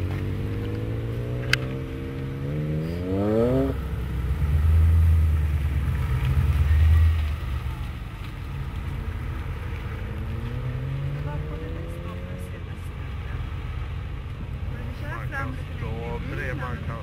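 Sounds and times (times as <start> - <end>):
car accelerating close by: 0.0 - 13.7
car engine revving: 0.0 - 17.0.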